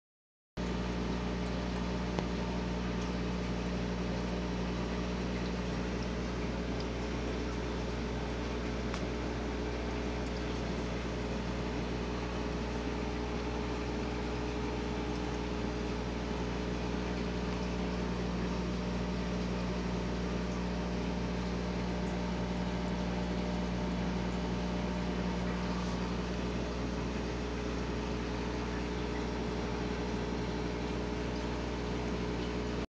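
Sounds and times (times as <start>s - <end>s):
sponge filter bubbling: 0.6s - 32.8s
aquarium air pump hum: 0.6s - 32.9s.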